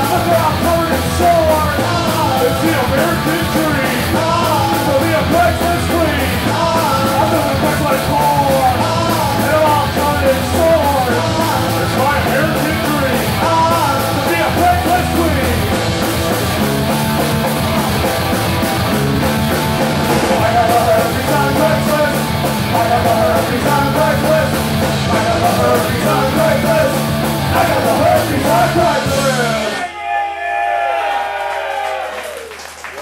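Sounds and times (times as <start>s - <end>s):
punk rock band playing: 0.0s - 29.8s.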